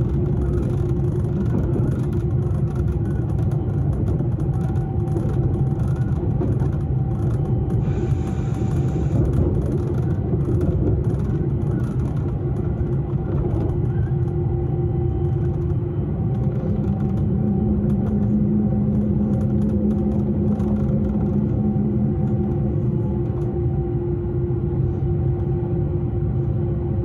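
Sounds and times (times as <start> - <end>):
lower hum: 0.0 - 27.0
train rumble with motor hum: 0.0 - 27.0.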